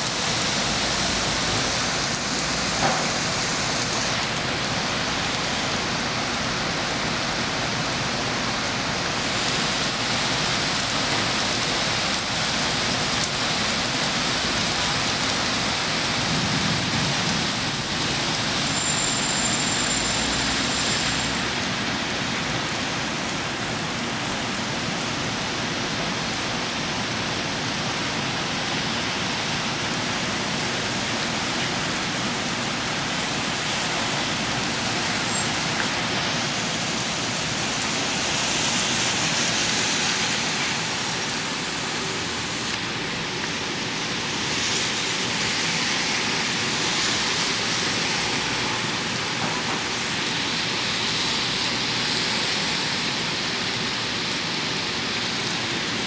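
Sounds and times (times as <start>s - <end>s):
rain on concrete: 0.0s - 56.0s.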